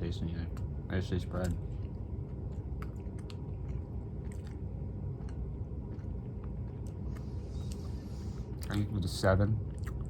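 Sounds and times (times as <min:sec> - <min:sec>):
steady low rumble: 0:00.0 - 0:10.0
person chewing bread: 0:00.5 - 0:09.0, 0:09.6 - 0:10.0.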